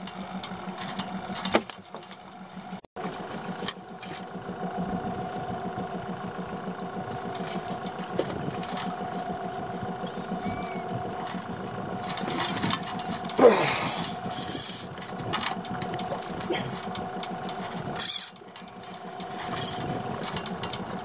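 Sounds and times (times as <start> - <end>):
outboard motor idling: 0.0 - 21.0.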